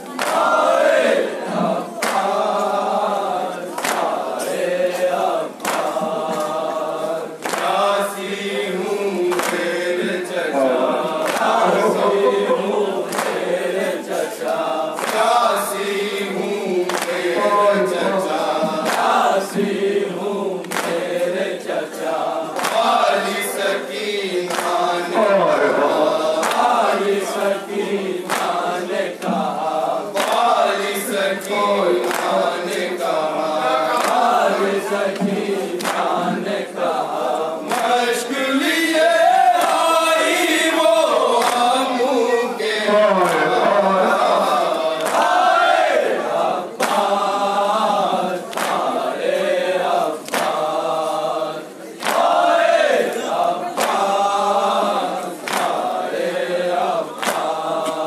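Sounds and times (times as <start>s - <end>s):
men chanting in unison: 0.2s - 58.0s.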